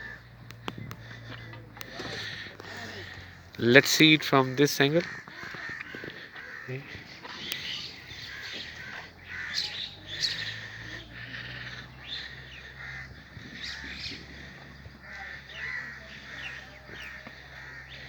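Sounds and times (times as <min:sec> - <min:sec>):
birds cawing and chirping: 0:00.0 - 0:18.0.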